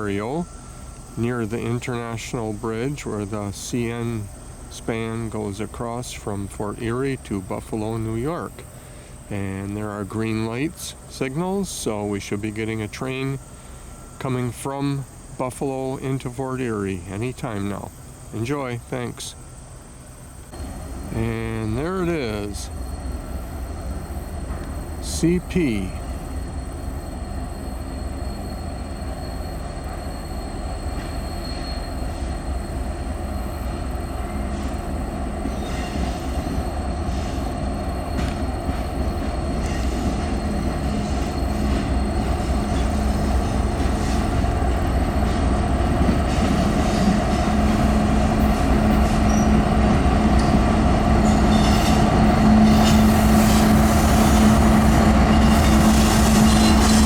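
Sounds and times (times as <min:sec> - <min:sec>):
freight train rumbling: 0:00.0 - 0:57.0
locomotive low hum: 0:00.0 - 0:57.0.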